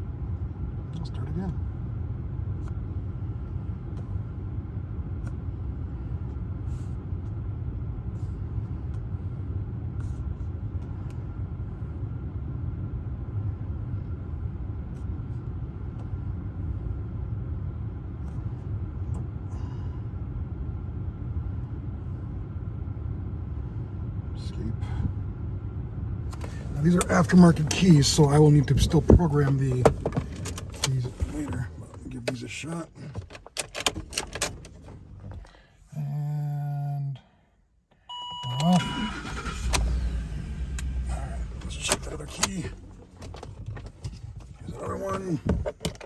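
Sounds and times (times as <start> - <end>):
steady low rumble: 0.0 - 37.0, 39.2 - 45.8.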